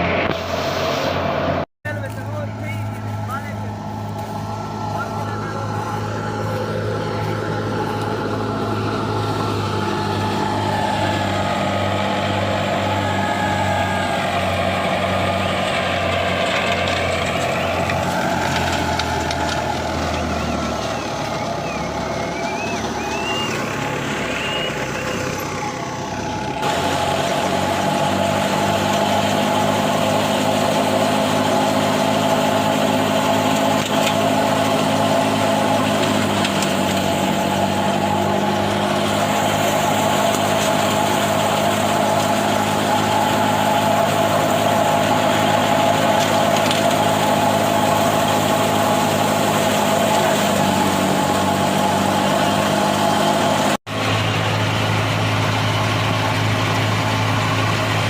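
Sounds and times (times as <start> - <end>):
diesel engine of farm machinery: 0.0 - 58.0.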